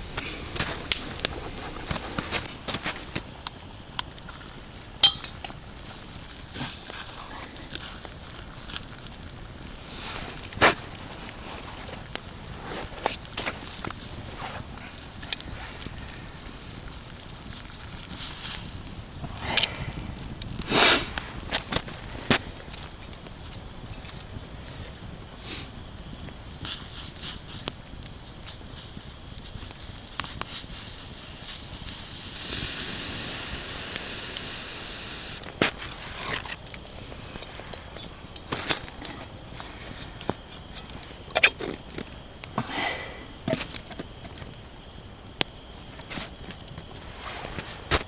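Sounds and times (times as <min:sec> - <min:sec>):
campfire crackling and popping: 0:00.0 - 0:48.0
steady hiss: 0:00.0 - 0:48.0.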